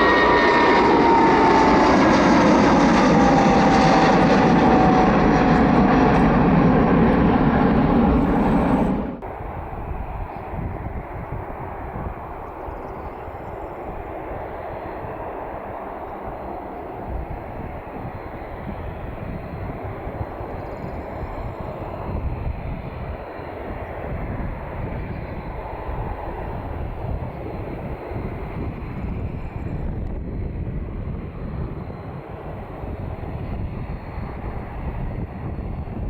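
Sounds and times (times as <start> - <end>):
turboprop engines rumbling: 0.0 - 36.0.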